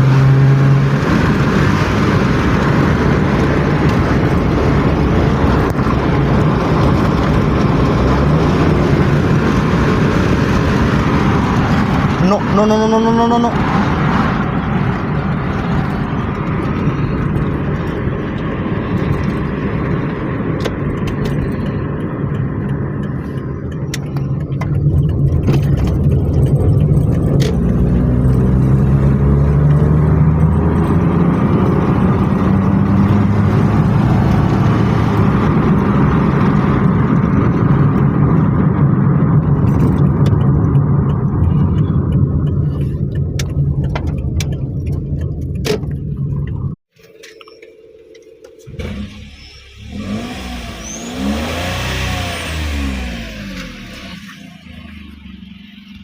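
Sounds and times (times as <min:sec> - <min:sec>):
small car engine running: 0:00.0 - 0:56.0.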